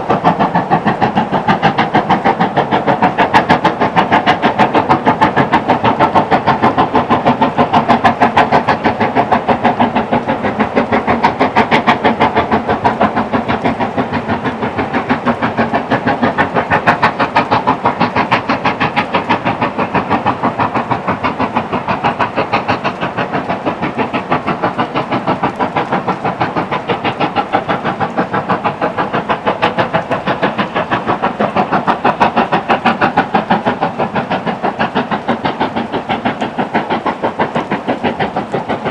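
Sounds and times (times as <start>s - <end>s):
steam locomotive chuffing: 0.0s - 38.9s.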